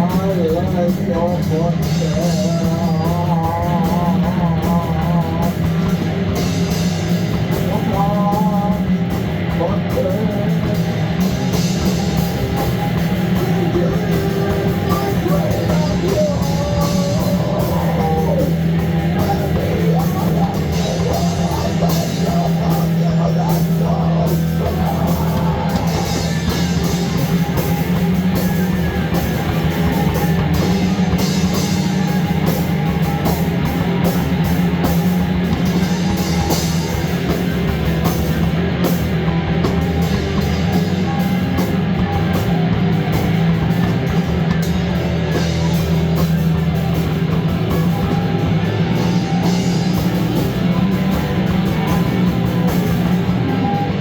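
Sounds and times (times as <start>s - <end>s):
electric guitar playing: 0.0s - 54.0s
heavy metal rock music: 0.0s - 54.0s.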